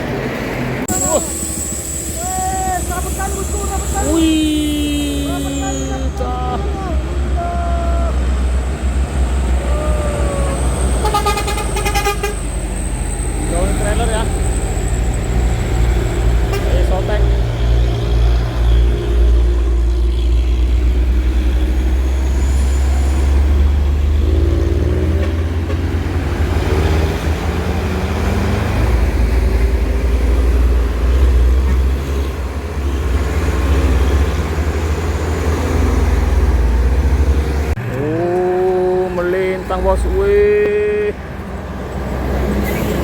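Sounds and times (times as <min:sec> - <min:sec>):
truck diesel engine droning: 0:00.0 - 0:43.0.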